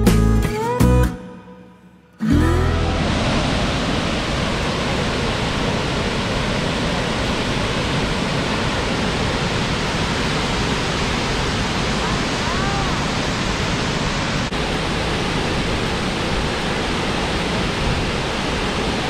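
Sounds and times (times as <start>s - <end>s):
waterfall roaring: 2.2s - 19.0s.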